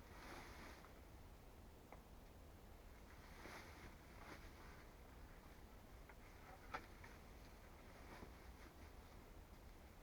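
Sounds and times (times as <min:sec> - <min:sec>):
soft faint rustle: 0:00.0 - 0:01.2, 0:02.8 - 0:10.0.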